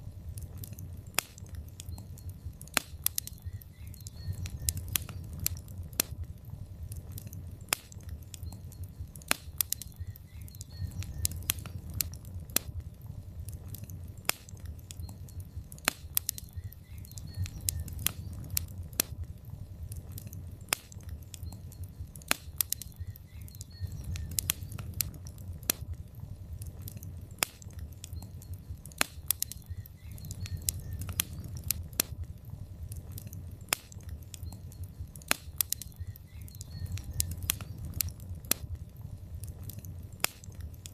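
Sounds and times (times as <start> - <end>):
fireplace logs crackling and popping: 0.0 - 40.9
low rumble of fire: 0.0 - 40.9.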